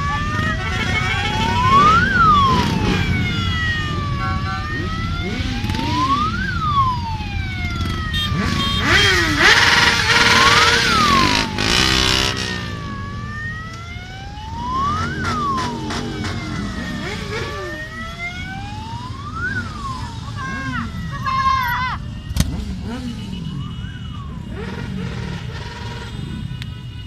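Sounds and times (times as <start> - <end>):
motorcycle engines rumbling: 0.0 - 27.0
siren wailing: 0.0 - 27.0.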